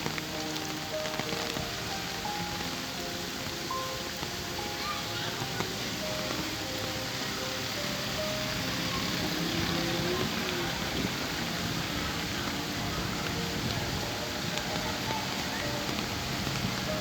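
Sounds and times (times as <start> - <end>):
faint music: 0.0 - 17.0
heavy rain hissing: 0.0 - 17.0
street traffic: 0.0 - 17.0.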